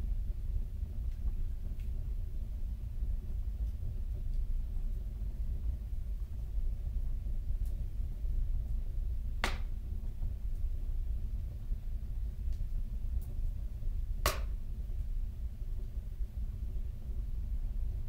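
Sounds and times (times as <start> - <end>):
stove fire rumble: 0.0 - 18.0.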